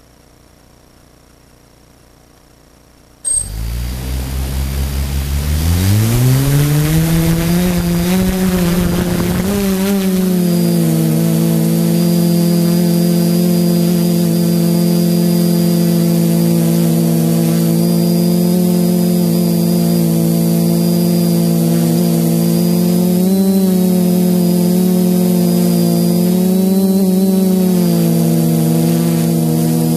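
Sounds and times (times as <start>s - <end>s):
quadcopter motors droning: 3.3s - 29.9s.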